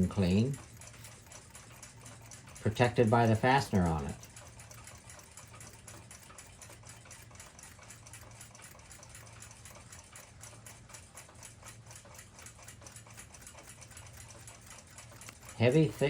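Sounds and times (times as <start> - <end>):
rapid mechanical ticking: 0.0 - 16.0.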